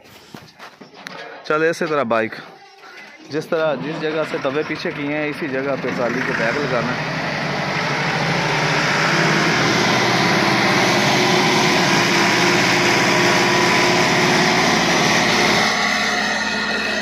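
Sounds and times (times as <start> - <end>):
tractor diesel engine under load: 3.3 - 17.0.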